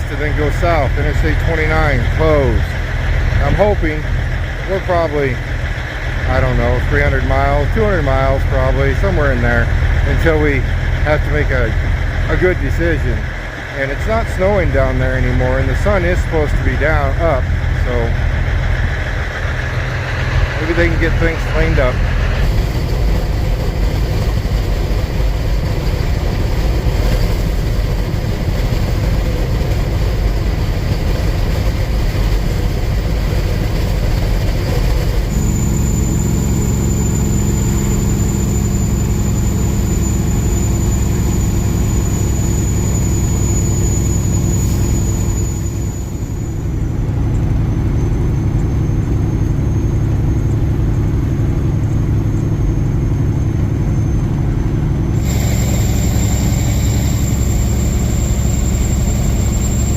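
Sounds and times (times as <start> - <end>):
faint high whine: 0.0 - 59.9
truck engine and road noise: 0.0 - 59.9.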